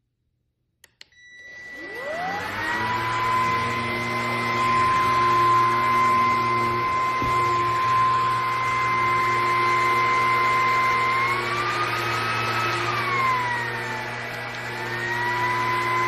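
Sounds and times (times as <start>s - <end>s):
vacuum cleaner motor whining: 1.2s - 16.0s.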